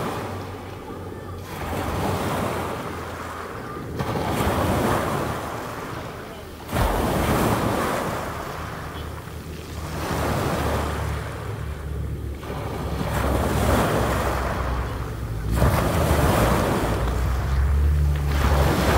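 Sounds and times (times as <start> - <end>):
waves washing onto pebble beach: 0.0 - 18.9
wind rumbling on microphone: 0.0 - 18.9.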